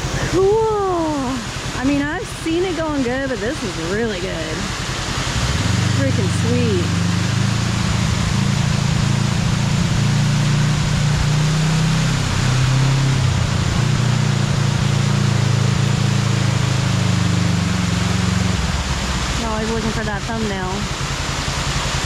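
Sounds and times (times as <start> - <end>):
engine idling: 0.0 - 22.0
waterfall rushing: 0.0 - 22.0.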